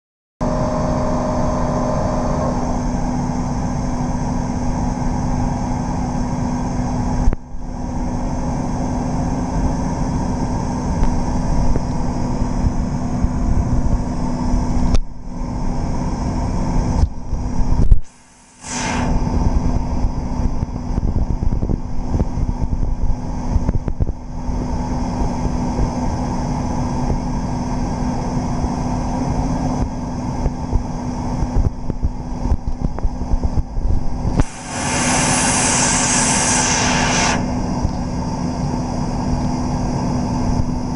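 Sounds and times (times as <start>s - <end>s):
machine hum and rushing noise: 0.4s - 40.9s.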